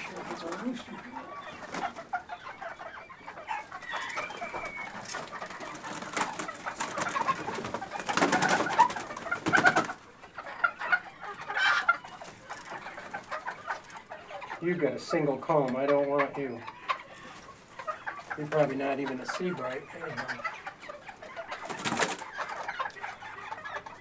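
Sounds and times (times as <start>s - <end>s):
wings flapping and scuffling: 0.0s - 14.6s, 16.7s - 24.0s
chickens clucking: 0.0s - 24.0s.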